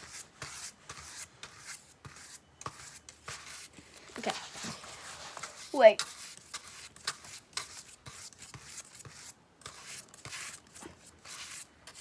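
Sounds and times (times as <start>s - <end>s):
paintbrush dabbing on cardboard: 0.0s - 12.0s.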